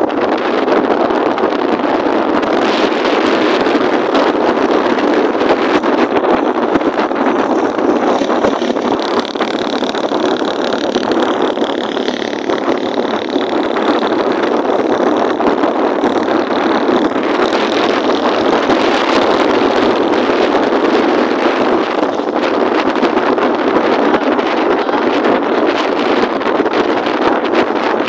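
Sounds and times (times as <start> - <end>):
motorcycle engine: 0.0 - 28.0
wind rushing over microphone: 0.0 - 28.0.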